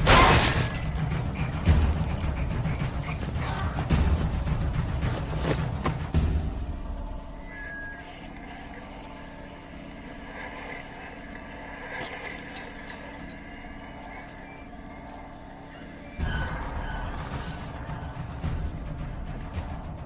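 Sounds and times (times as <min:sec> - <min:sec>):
low droning ambience: 0:00.0 - 0:20.0.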